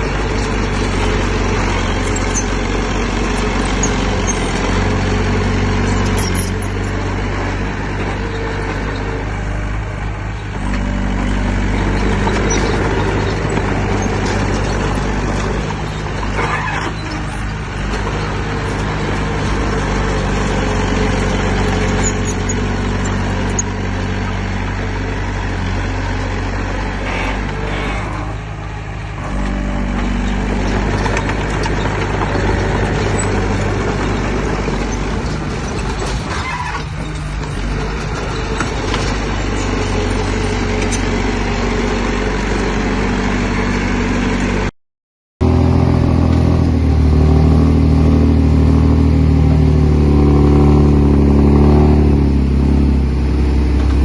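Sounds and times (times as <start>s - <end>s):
heavy diesel engine running: 0.0s - 44.7s, 45.4s - 54.0s.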